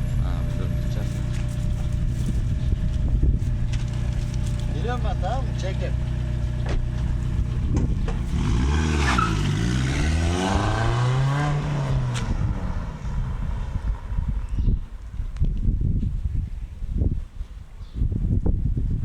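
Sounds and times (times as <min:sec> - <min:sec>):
car engine idling and accelerating: 0:00.0 - 0:15.4
road and wind noise: 0:00.0 - 0:19.0.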